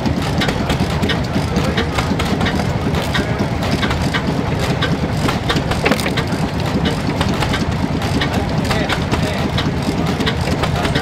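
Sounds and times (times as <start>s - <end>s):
stationary engine chugging: 0.0s - 11.0s
log splitter clacking: 2.0s - 11.0s.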